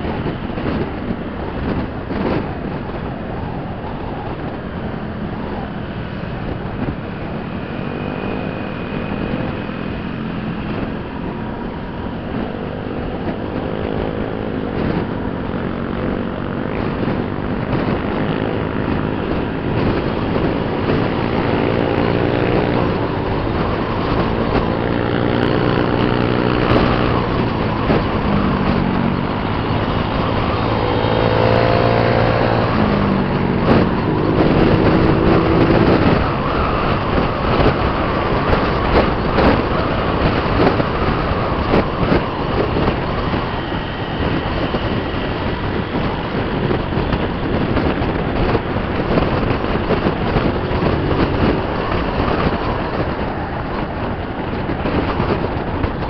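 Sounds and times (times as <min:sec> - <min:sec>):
wind noise on microphone: 0:00.0 - 0:56.0
scooter engine running: 0:05.0 - 0:56.0.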